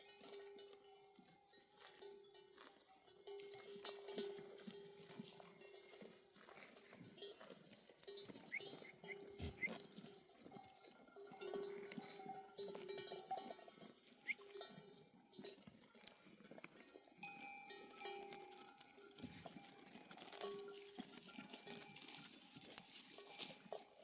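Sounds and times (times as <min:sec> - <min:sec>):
sheep bells clanking: 0:00.0 - 0:24.0.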